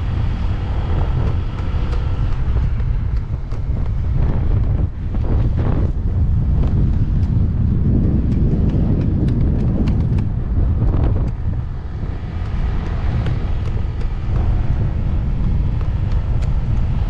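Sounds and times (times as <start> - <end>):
motorcycle rumble: 0.0 - 17.0
wind buffeting microphone: 0.0 - 17.0.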